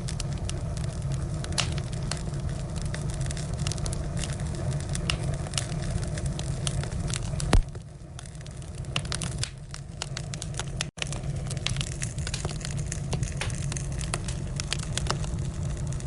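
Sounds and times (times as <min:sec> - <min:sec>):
fire rumbling: 0:00.0 - 0:16.0
firewood crackling and popping: 0:00.0 - 0:16.0.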